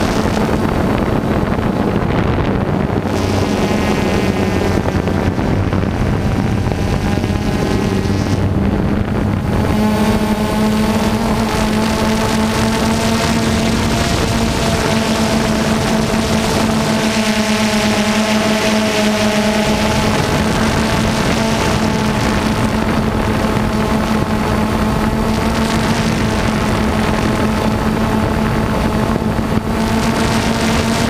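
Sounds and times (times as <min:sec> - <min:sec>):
air rushing over microphone: 0:00.0 - 0:31.0
drone propellers buzzing: 0:00.0 - 0:31.0.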